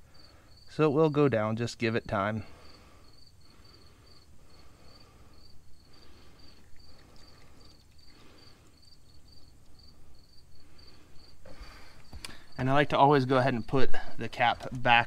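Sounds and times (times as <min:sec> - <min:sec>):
cricket chirping: 0:00.0 - 0:01.4, 0:02.4 - 0:14.1.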